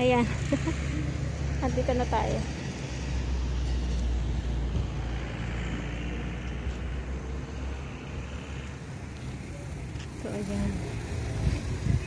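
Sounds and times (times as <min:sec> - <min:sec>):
vehicle passing on road: 0:00.0 - 0:12.0.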